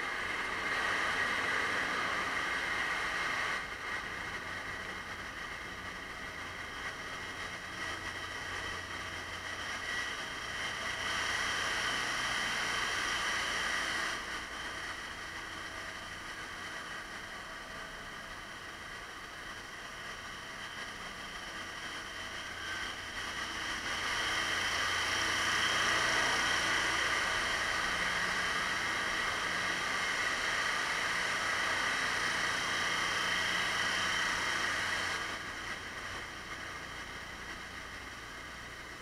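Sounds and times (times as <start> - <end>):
engine room machinery running: 0.0 - 39.0.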